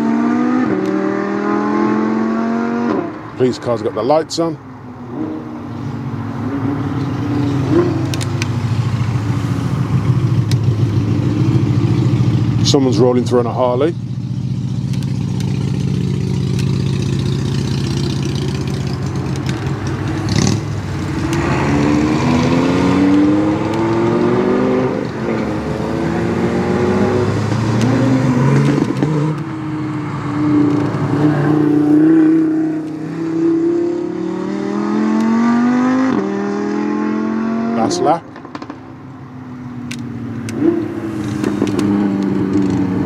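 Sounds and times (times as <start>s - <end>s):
car accelerating through gears: 0.0s - 13.9s, 14.5s - 39.0s, 40.3s - 43.0s
car engine running low: 1.4s - 43.0s.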